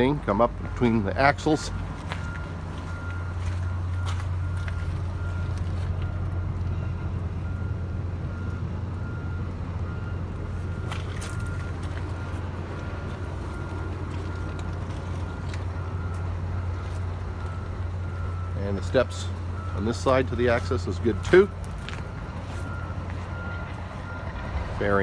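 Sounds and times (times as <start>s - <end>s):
back-up alarm beeping: 0.0s - 25.0s
low engine hum: 0.0s - 25.0s.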